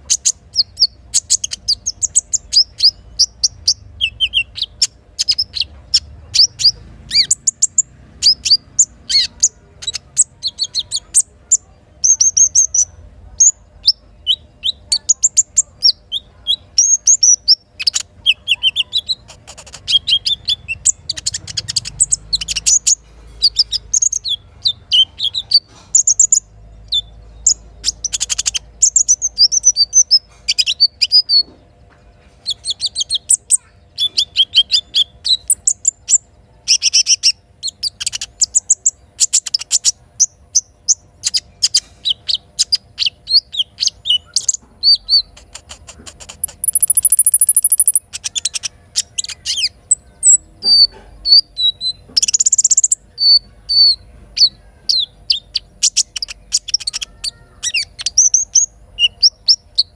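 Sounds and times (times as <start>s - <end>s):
bird chirps and trills: 0.0s - 59.9s.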